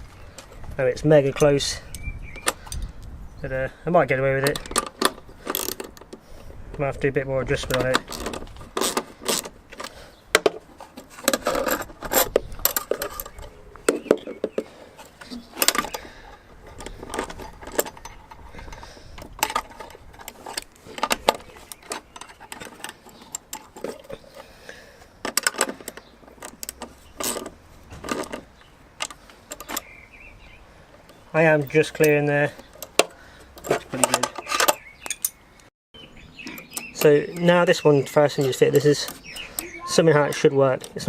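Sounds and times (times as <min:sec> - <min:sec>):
metal tools clinking and scraping: 0:04.3 - 0:06.2, 0:07.4 - 0:29.9, 0:31.1 - 0:35.4, 0:36.4 - 0:41.0.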